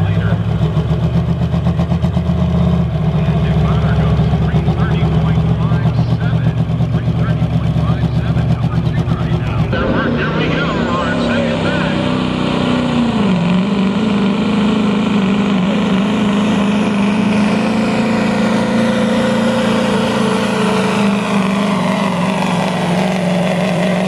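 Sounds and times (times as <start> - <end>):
diesel engine at full throttle: 0.0 - 24.0.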